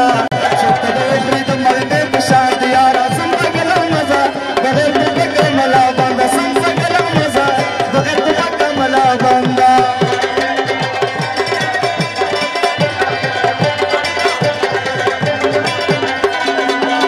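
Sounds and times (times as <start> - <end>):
tabla playing quick rhythm: 0.0 - 17.0.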